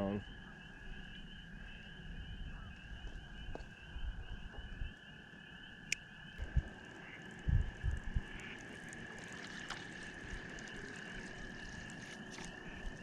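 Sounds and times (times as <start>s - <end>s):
frogs trilling: 0.0s - 13.0s.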